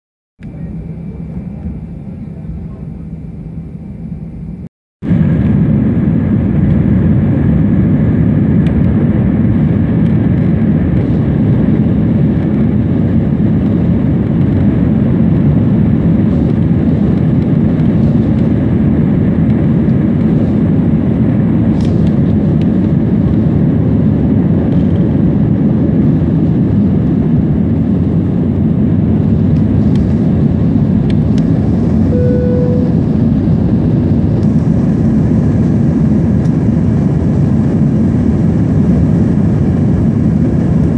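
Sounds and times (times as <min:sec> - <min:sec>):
jet engines at takeoff thrust: 0:00.4 - 0:40.9.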